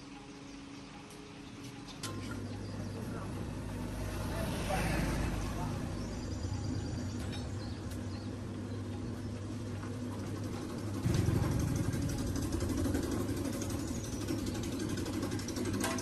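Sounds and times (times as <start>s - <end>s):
engine idling: 2.4s - 16.0s.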